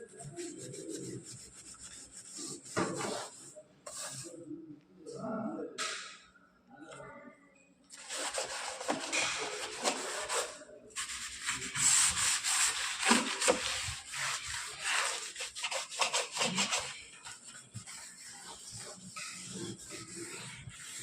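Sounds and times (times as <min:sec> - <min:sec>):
scrubbing strokes on refrigerator: 0:00.0 - 0:04.4, 0:07.9 - 0:21.0.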